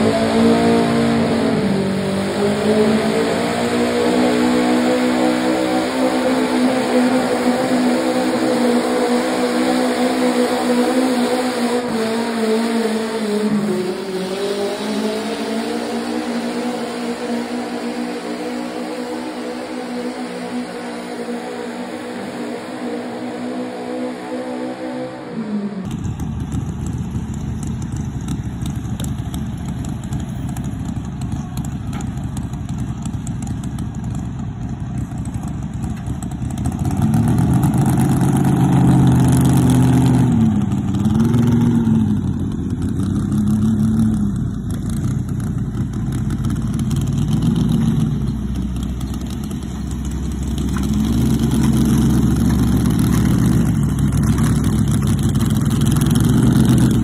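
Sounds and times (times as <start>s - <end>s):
engine revving up and down: 0.0s - 30.7s, 36.2s - 57.0s
tractor engines under load: 0.0s - 57.0s.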